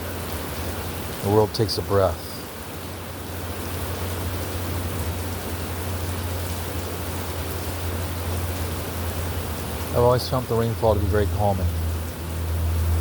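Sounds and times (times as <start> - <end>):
heavy rainfall: 0.0 - 13.0.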